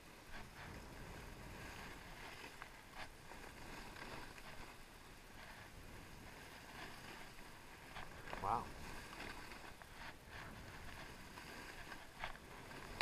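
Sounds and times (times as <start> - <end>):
ski edges scraping: 0.2 - 13.0.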